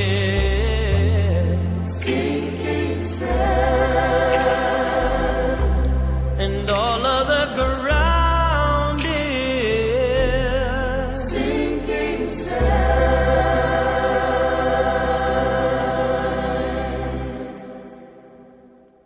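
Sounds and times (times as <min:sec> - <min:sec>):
steady bass: 0:00.0 - 0:17.5
harmonised singing with vibrato: 0:00.0 - 0:18.8.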